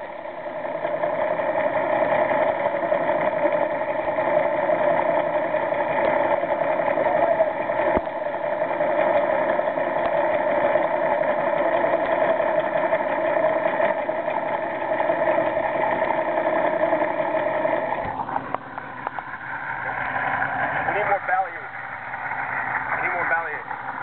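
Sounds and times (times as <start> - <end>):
boat engine idling underwater: 0.0 - 24.0.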